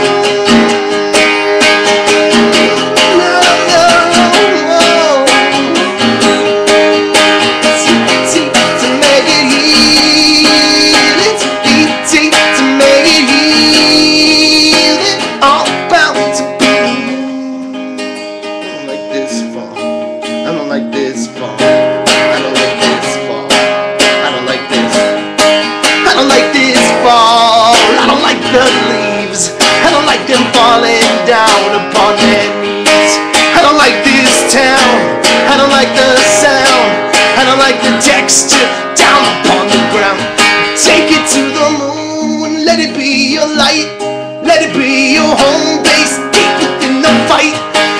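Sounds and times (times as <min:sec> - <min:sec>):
acoustic guitar playing: 0:00.0 - 0:47.9.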